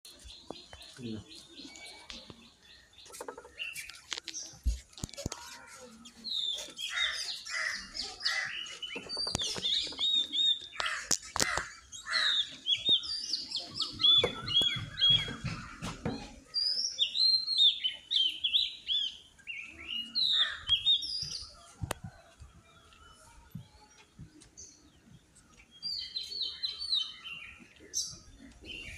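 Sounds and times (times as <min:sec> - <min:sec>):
small birds chirping: 0:00.1 - 0:28.9.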